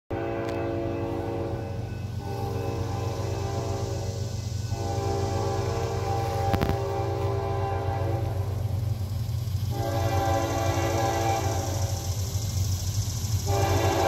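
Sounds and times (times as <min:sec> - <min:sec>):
train air horn blasts: 0:00.1 - 0:09.0, 0:09.7 - 0:12.4, 0:13.4 - 0:14.0
diesel engine rumble: 0:00.1 - 0:14.0.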